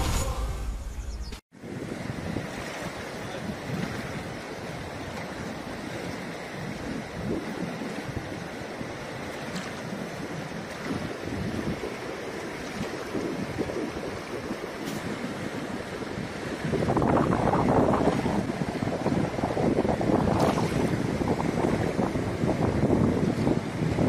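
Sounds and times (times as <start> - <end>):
wind buffeting microphone: 1.6 - 24.0.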